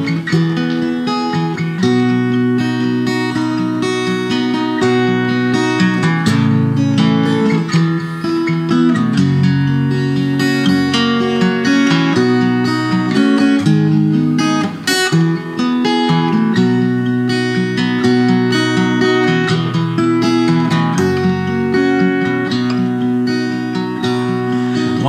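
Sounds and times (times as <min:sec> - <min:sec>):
acoustic guitar folk tune: 0:00.0 - 0:25.0.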